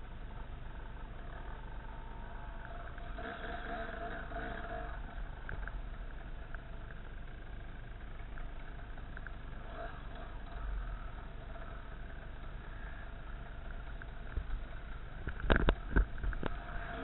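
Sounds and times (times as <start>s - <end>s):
motorcycle engine running: 0.0s - 17.0s
faint ticks: 0.3s - 17.0s.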